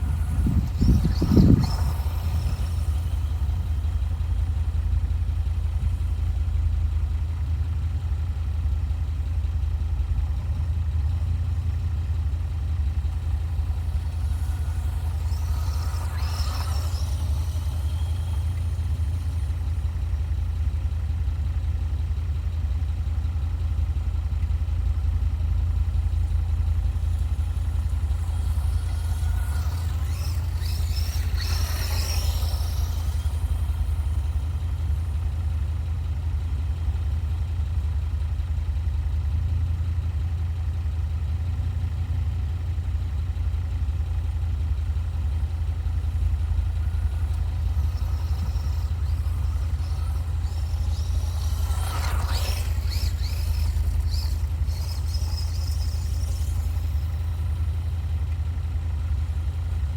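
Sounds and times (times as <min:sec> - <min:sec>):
electric motor and gears whining: 0:00.0 - 0:08.2, 0:10.0 - 0:22.3, 0:25.4 - 0:38.0, 0:44.0 - 0:59.9.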